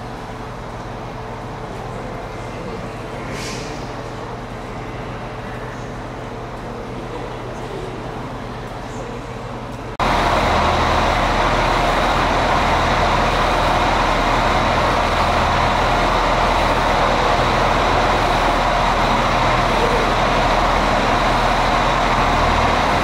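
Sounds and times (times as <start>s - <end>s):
steady background noise: 0.0s - 23.0s
train running: 0.0s - 23.0s.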